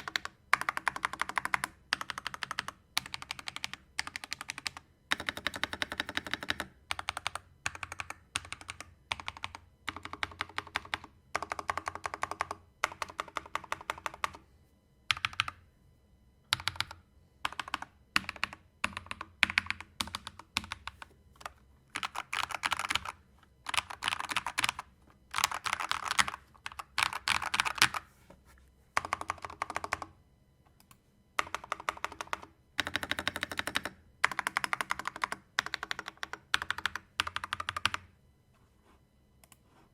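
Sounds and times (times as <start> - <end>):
mechanical keyboard typing: 0.0 - 14.4, 15.1 - 15.6, 16.5 - 28.0, 29.0 - 30.1, 30.8 - 38.1.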